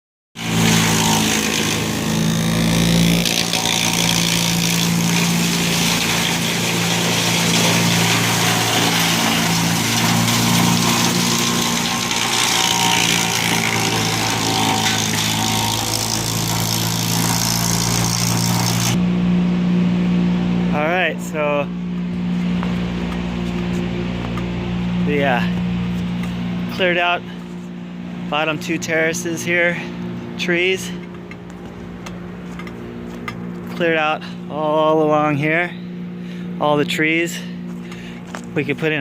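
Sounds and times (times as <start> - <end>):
engine running steadily: 0.4 - 39.0.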